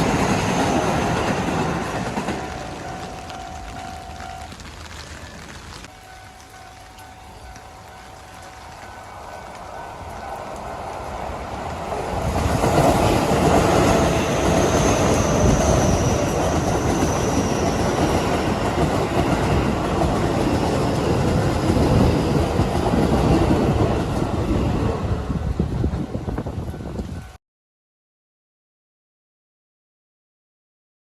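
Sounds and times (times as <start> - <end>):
heavy rain: 0.0 - 27.1
electric train passing: 0.0 - 27.4.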